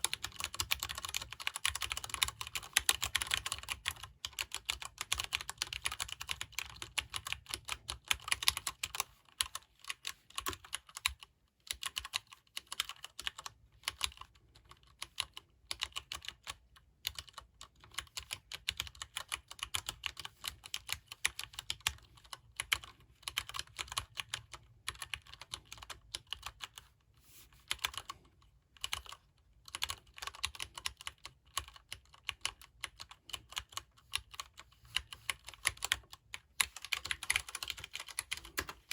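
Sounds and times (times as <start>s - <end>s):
mechanical keyboard typing: 0.0s - 26.9s, 27.6s - 28.2s, 28.8s - 38.9s.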